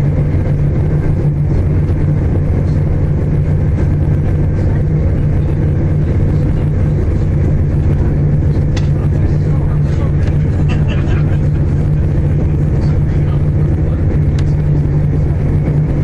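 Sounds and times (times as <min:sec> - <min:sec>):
diesel engine drone: 0:00.0 - 0:16.0
wheel and rail rumble: 0:00.0 - 0:16.0.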